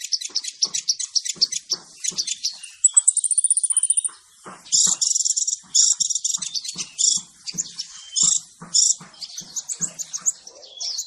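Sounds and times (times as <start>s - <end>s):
bird chirping twitters: 0.0s - 11.0s.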